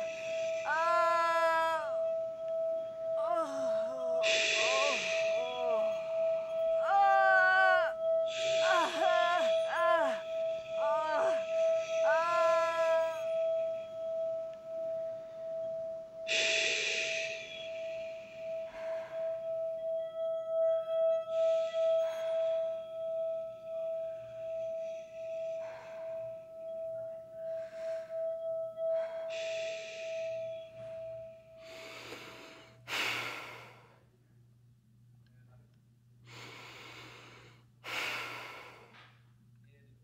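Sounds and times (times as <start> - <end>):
steady ringing tone: 0.0 - 33.6.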